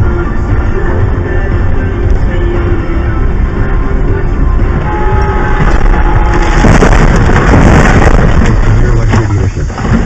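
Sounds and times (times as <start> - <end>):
heavy bass music: 0.0 - 10.0.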